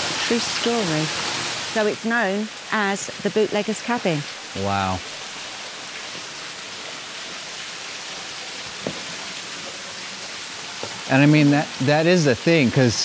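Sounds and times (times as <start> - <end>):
small waterfall splashing: 0.0 - 13.0.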